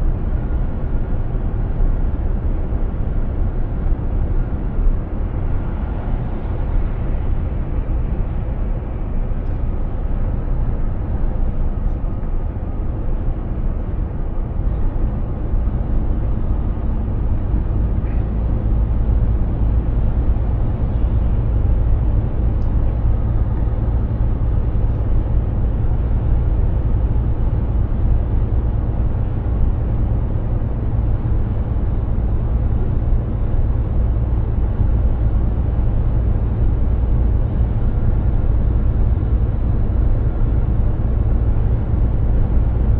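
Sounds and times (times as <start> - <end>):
truck engine and road rumble: 0.0 - 42.9.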